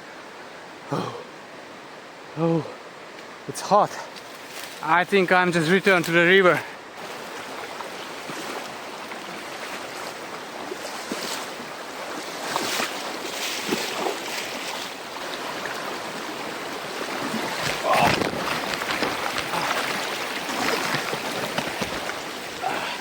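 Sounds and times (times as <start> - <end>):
river rushing over stones: 4.6 - 23.0.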